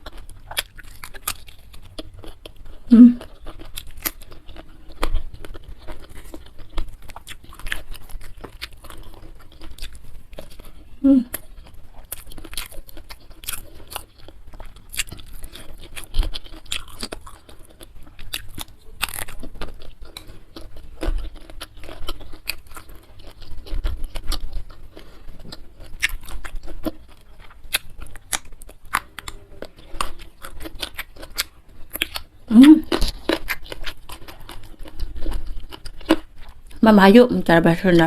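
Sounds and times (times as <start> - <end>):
person chewing crunchy food: 0.0 - 36.8.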